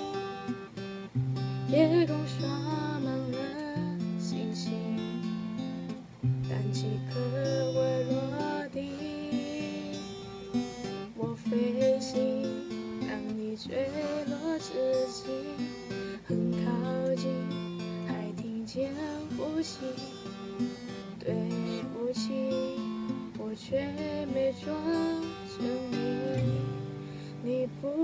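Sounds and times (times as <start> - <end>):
acoustic guitar playing: 0.0 - 28.0.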